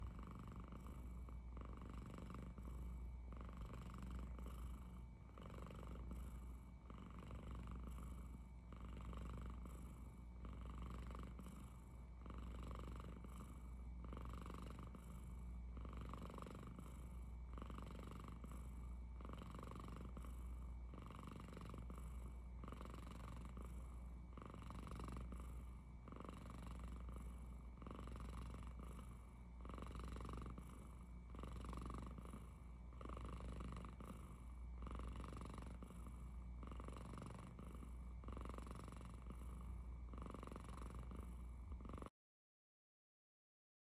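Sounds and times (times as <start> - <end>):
cat purring rumble: 0.0 - 42.1.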